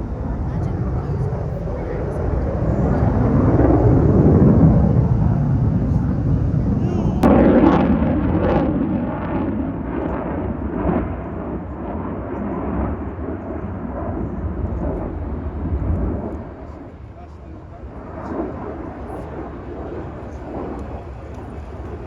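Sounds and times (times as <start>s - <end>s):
jet engine roar with crackle: 0.0s - 22.0s.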